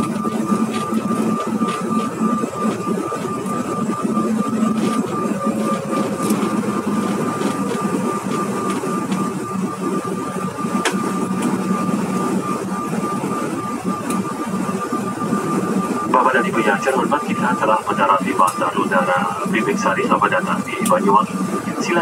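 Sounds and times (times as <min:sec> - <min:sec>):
jet engines and wheels rumbling: 0:00.0 - 0:22.0
thin steady whine: 0:00.0 - 0:22.0.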